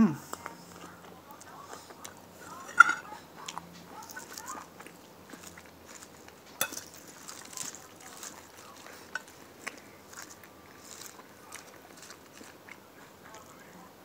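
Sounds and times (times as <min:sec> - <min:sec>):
chewing and wet mouth sounds: 0:00.2 - 0:13.8.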